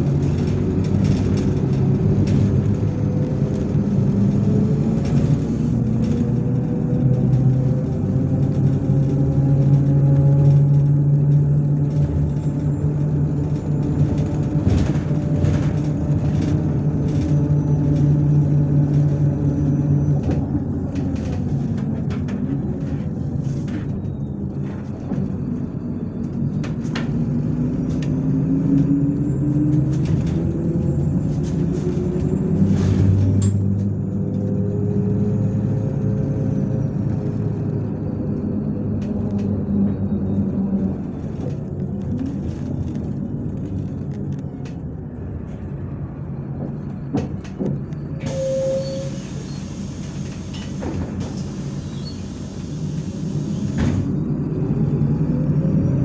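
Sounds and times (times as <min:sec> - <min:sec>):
bus engine hum: 0:00.0 - 0:56.0.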